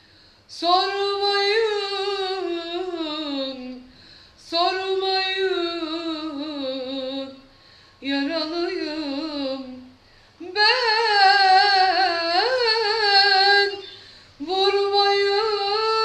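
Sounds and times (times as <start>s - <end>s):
woman singing unaccompanied: 0.5s - 16.0s.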